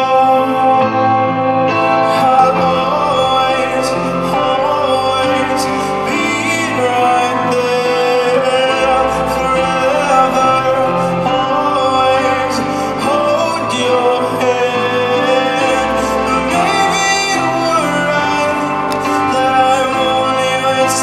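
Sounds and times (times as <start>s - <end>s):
person singing: 0.0s - 21.0s.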